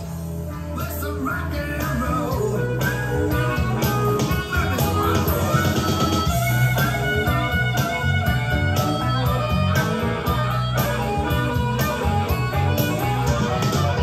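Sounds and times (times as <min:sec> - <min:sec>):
blues-rock instrumental: 0:00.0 - 0:14.0.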